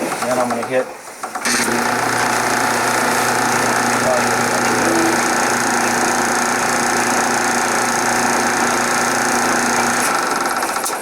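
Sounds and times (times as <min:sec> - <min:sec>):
electric dryer running: 0:00.0 - 0:11.0.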